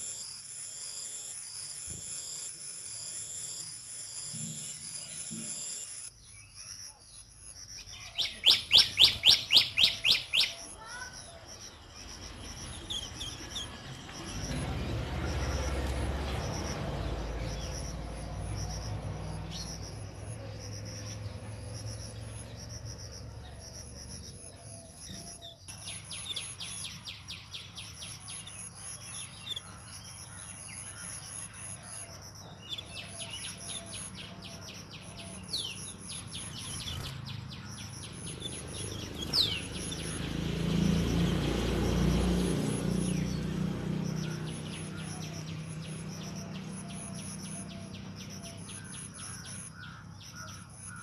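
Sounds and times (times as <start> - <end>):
high-pitched insect trill: 0.0 - 51.0
nestling birds chirping: 1.0 - 51.0.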